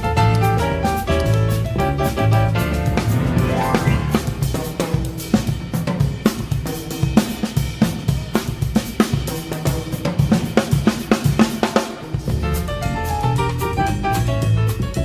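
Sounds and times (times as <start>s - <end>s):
drum kit playing steady beat: 0.0s - 15.0s.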